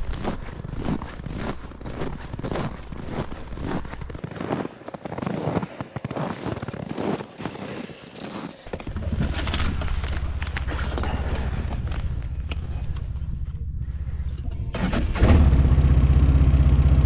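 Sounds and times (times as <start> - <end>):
irregular crackling: 0.0 - 14.2
snowmobile engine droning: 0.1 - 17.0.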